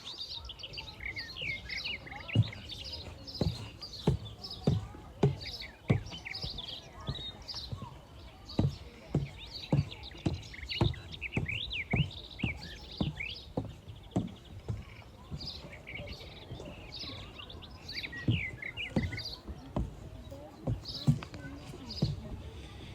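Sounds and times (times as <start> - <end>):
songbirds chirping: 0.0 - 22.9
low thuds like footsteps: 0.6 - 22.9.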